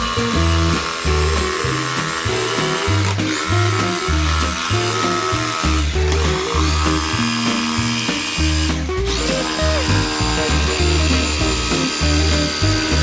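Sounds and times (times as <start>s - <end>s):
background music with bass line: 0.0s - 13.0s
jigsaw cutting wood: 0.0s - 13.0s.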